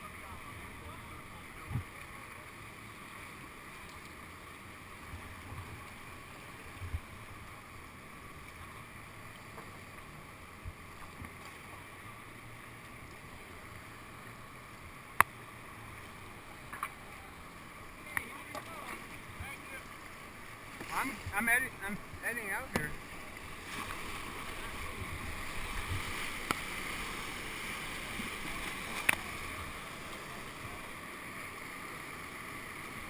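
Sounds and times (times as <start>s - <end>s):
whitewater rushing: 0.0s - 33.0s.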